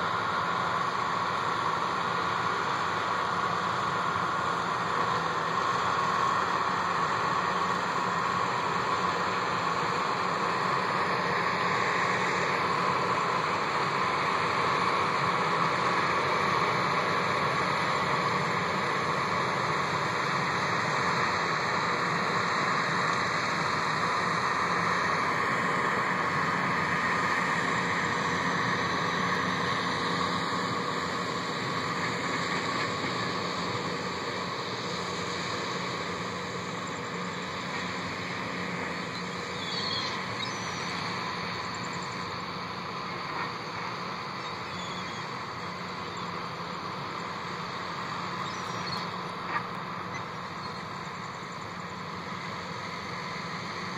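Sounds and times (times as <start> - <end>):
tractor and harvester running: 0.0 - 53.9.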